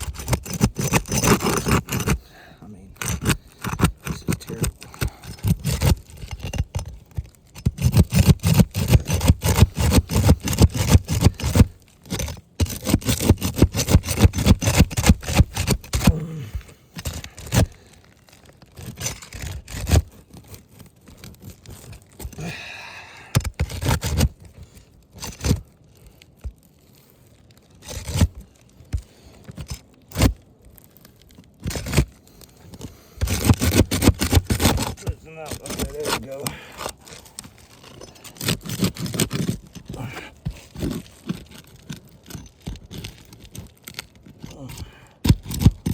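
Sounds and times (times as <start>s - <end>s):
roof shingles scraping: 0.0s - 45.9s
shingle crackles: 0.0s - 45.9s.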